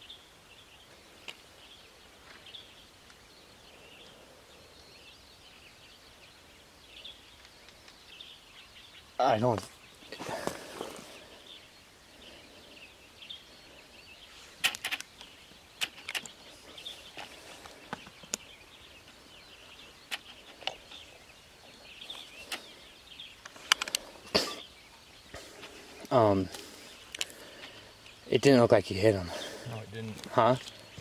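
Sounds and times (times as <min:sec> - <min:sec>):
faint birdsong: 0:00.0 - 0:31.0.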